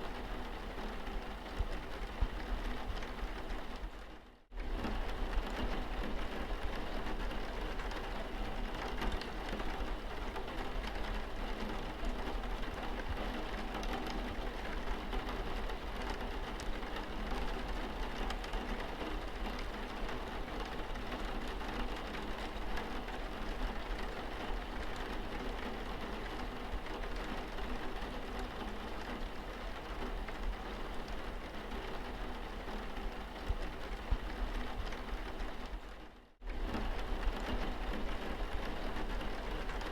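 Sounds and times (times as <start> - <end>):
rain pattering on windscreen: 0.0 - 39.9.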